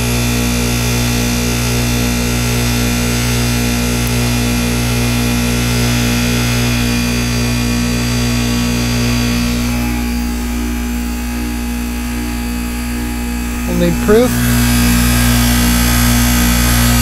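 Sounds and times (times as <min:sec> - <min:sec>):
compressor electrical hum: 0:00.0 - 0:17.0.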